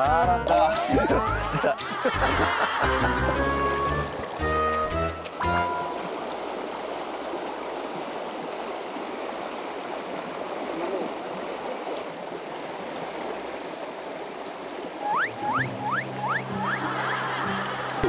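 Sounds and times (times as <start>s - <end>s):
river water flowing around legs: 0.5s - 18.0s.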